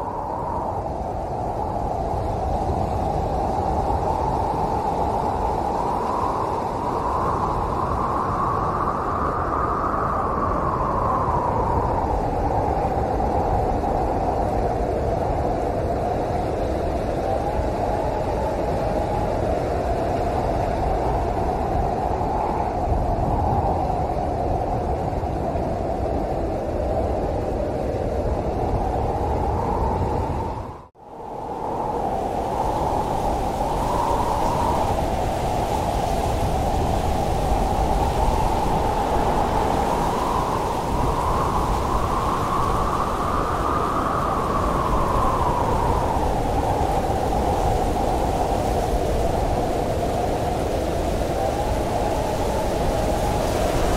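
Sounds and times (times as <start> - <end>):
strong storm wind blowing: 0.0 - 53.9.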